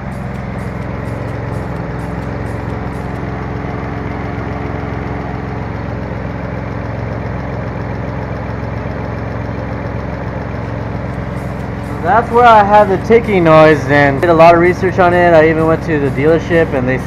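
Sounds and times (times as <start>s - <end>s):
car engine idling with ticking: 0.0s - 17.0s.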